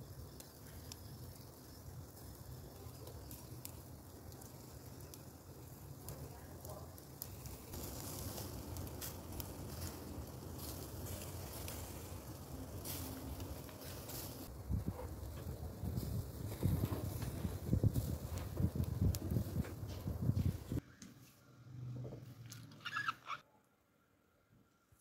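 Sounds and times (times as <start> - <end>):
fat crackling and popping on coals: 0.0 - 20.8, 22.5 - 23.4
meat sizzling on charcoal grill: 0.0 - 20.8.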